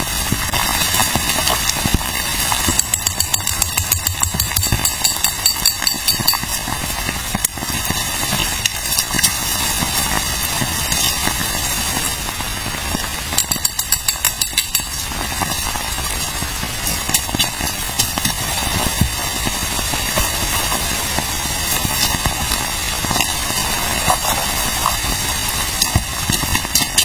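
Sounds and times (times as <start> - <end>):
sharp crackles and clicks: 0.0 - 27.0.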